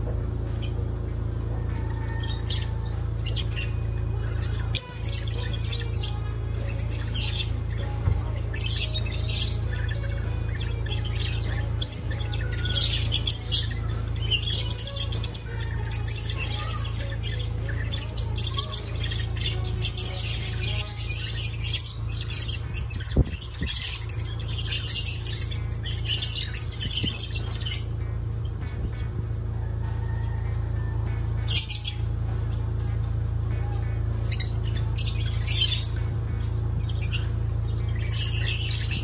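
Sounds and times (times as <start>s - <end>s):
lovebirds chirping and squawking: 0.0s - 39.0s
steady low hum: 0.0s - 39.0s.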